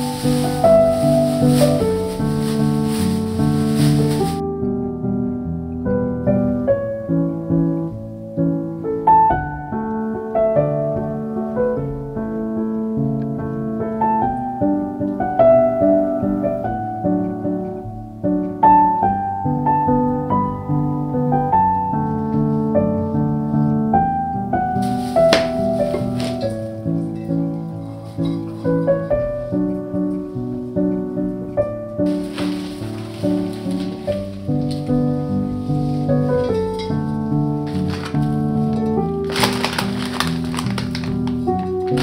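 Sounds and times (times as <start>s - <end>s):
gentle solo piano piece: 0.0s - 42.0s.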